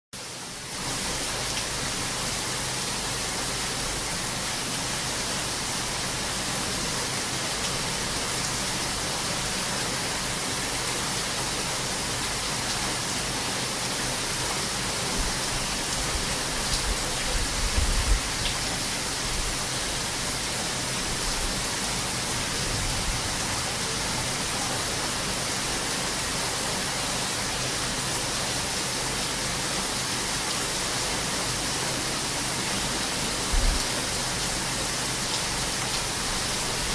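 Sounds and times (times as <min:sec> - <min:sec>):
heavy rain hissing: 0:00.2 - 0:36.9.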